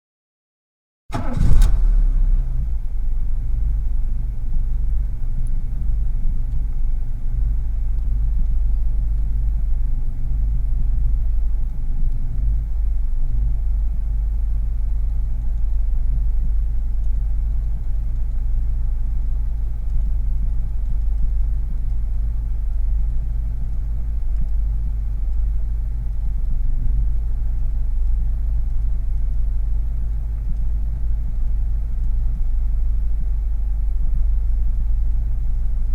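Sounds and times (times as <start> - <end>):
car engine idling: 1.1 - 35.9.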